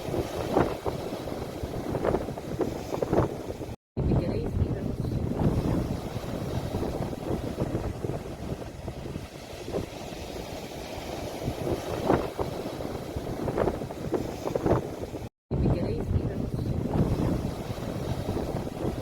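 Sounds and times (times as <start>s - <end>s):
ocean waves washing ashore: 0.0s - 19.0s
wind buffeting microphone: 0.0s - 19.0s.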